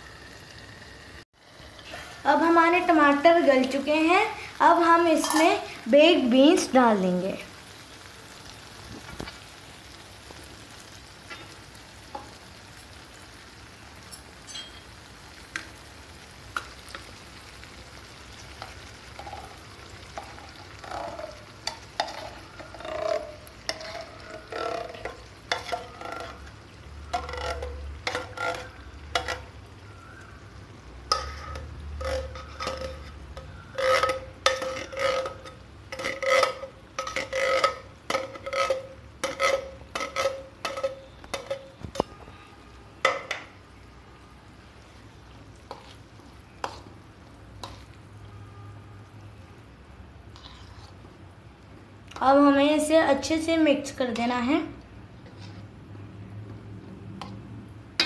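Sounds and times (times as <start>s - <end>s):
tomato sauce sizzling in a pan: 0.0s - 56.1s.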